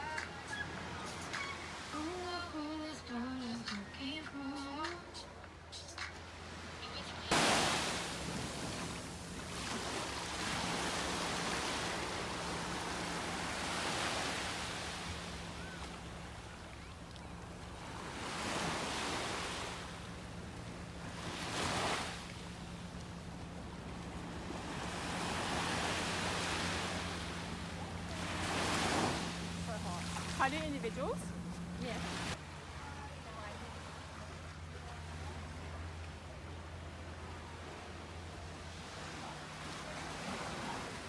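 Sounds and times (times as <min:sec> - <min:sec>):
small waves breaking on beach: 0:06.3 - 0:41.0.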